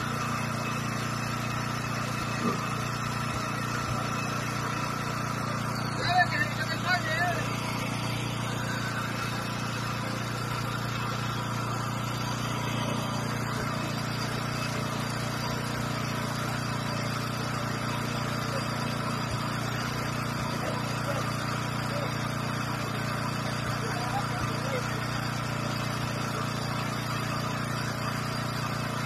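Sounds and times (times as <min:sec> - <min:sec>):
water pump engine running: 0:00.0 - 0:29.0.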